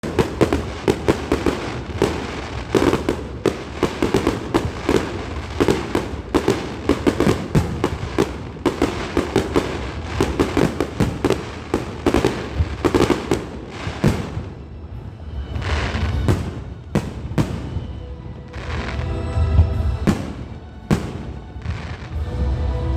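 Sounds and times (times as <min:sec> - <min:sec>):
fireworks bangs and crackles: 0:00.0 - 0:22.3.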